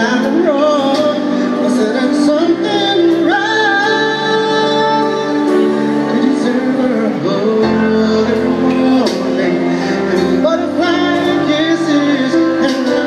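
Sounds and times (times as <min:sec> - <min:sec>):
karaoke backing track: 0:00.0 - 0:13.0
man singing a ballad: 0:00.0 - 0:13.0.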